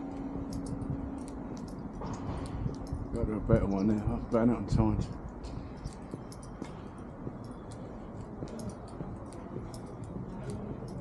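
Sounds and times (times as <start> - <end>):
footsteps on a paved path: 0.0 - 11.0
low steady rumble: 0.0 - 11.0.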